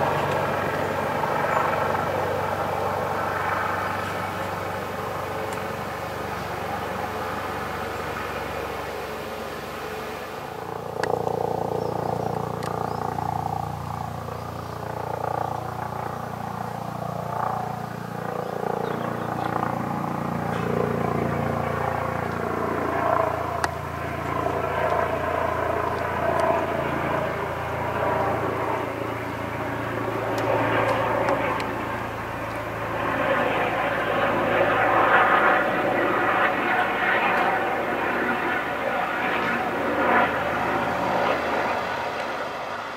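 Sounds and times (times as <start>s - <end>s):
helicopter flying overhead: 0.0s - 42.9s.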